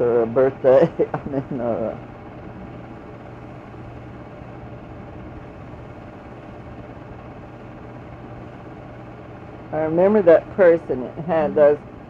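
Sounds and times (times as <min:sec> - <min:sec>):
film projector whirring: 0:00.0 - 0:12.0
low hum: 0:00.0 - 0:12.0.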